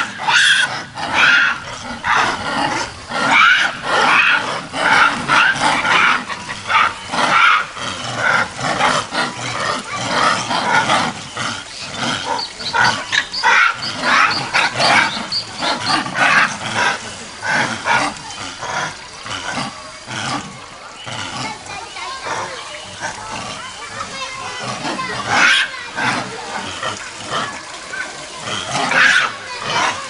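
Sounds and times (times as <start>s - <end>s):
monkeys screaming: 0.0s - 30.0s.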